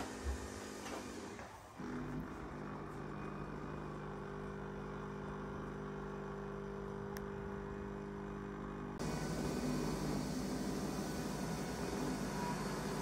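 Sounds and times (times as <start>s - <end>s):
coffee machine motor hum: 0.0s - 13.0s.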